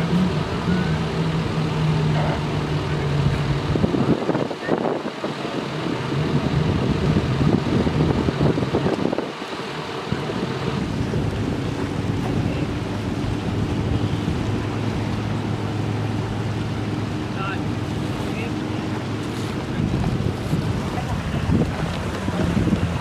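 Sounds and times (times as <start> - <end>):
ambulance engine idling: 0.0 - 23.0
constant rushing background noise: 0.0 - 23.0.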